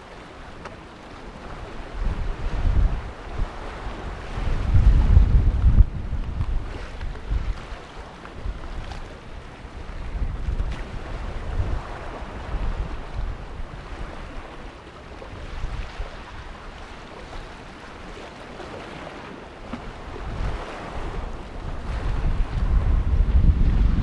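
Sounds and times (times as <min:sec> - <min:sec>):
sea waves washing against rocks: 0:00.0 - 0:24.0
wind buffeting microphone: 0:01.4 - 0:17.4, 0:19.7 - 0:24.0.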